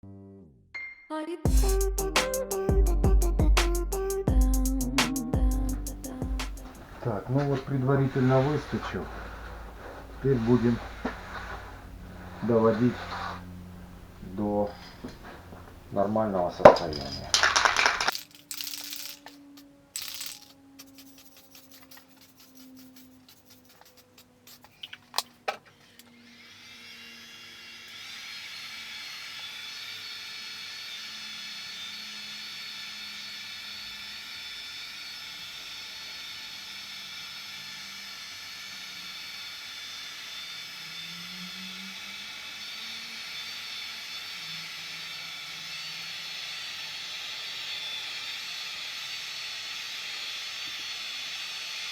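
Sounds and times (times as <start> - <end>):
power tool whining: 5.8 - 51.9.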